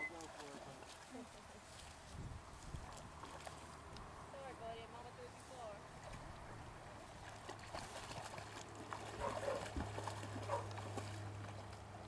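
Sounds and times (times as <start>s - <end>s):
dogs splashing through water: 0.0s - 12.0s.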